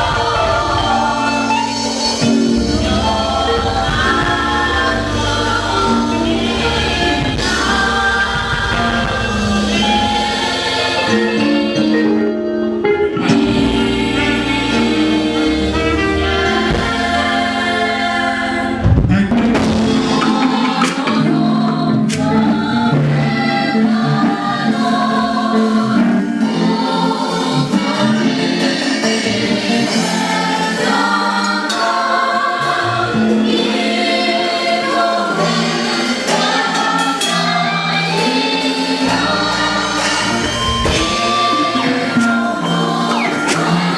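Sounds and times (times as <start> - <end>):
choir singing gospel: 0.0 - 43.9
instrumental backing: 0.0 - 43.9.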